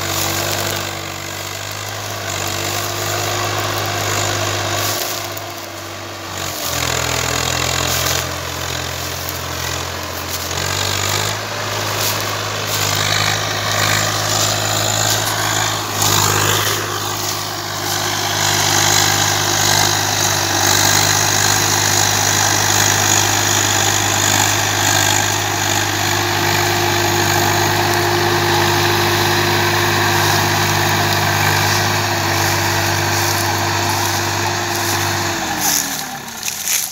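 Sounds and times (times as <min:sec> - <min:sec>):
tractor diesel engine running hard: 0:00.0 - 0:36.9.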